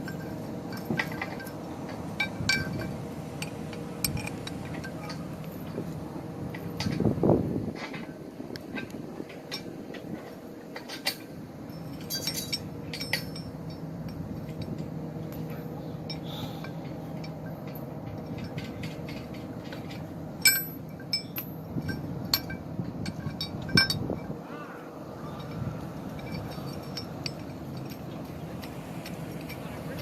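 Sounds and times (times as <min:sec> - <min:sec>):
metal parts clinking: 0:00.0 - 0:05.9, 0:09.5 - 0:15.5, 0:16.1 - 0:24.3, 0:25.3 - 0:30.0
steady low hum: 0:00.0 - 0:30.0.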